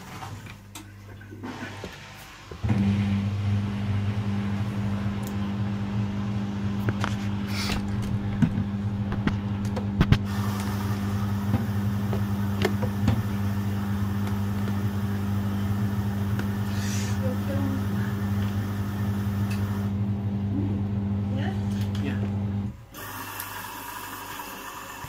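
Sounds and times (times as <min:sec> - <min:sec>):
washing machine humming: 0:00.0 - 0:25.0.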